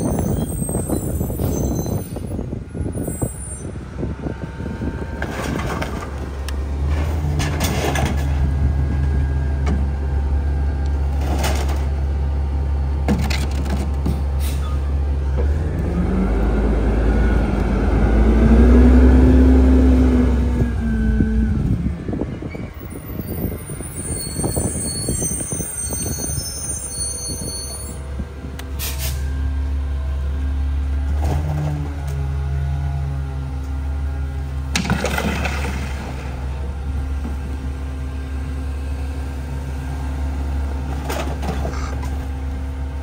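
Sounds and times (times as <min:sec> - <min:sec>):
garbage truck engine: 0:00.0 - 0:43.0.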